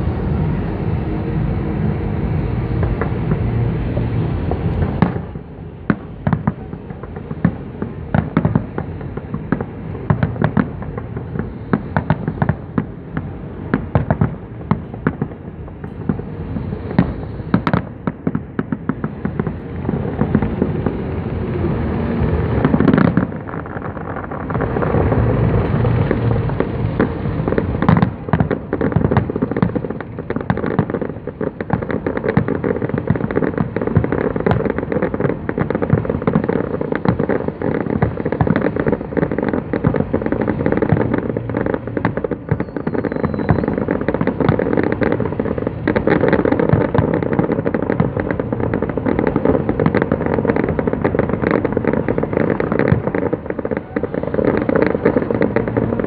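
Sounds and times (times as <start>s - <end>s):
fireworks bangs and crackling pops: 0.0s - 56.0s
low rumble: 0.0s - 56.0s.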